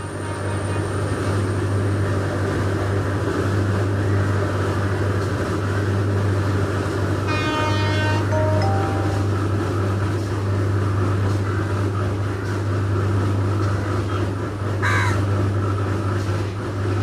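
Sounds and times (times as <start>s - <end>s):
train approaching with low hum: 0.0s - 17.0s.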